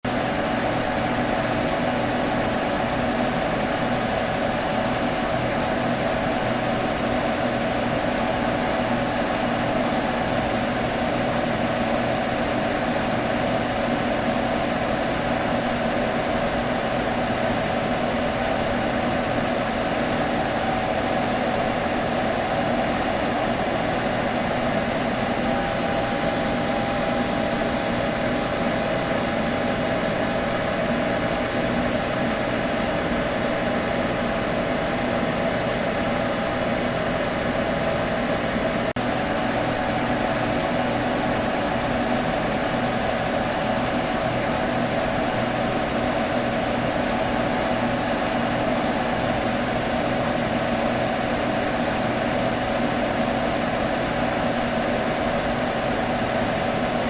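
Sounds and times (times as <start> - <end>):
computer humming: 6.6 - 57.0.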